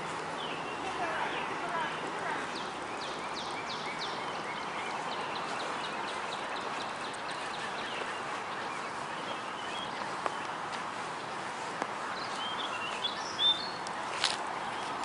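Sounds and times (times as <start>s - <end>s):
bird chirping: 0.1s - 15.0s.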